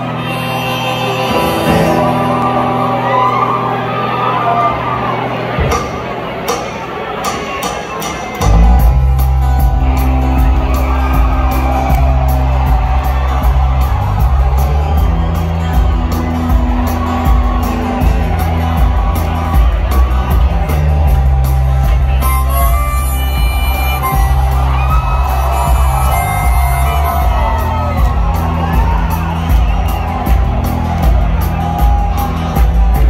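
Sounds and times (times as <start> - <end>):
rock band playing live: 0.0 - 33.0.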